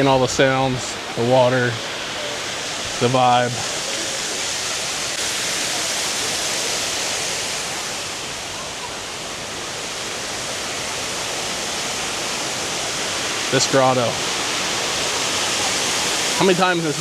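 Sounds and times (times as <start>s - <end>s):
waterfall pouring into pool: 0.0s - 17.0s.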